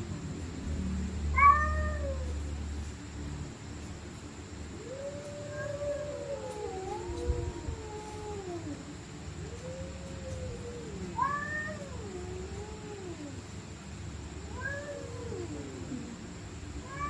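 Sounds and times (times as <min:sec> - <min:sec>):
cats caterwauling: 0:01.0 - 0:03.0, 0:04.7 - 0:13.8, 0:14.4 - 0:17.0.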